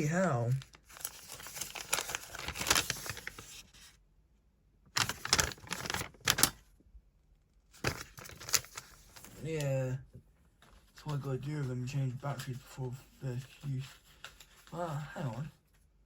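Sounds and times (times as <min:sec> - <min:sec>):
paper rustling and crinkling: 0:00.3 - 0:04.0, 0:04.9 - 0:06.7, 0:07.7 - 0:09.8, 0:10.6 - 0:16.0.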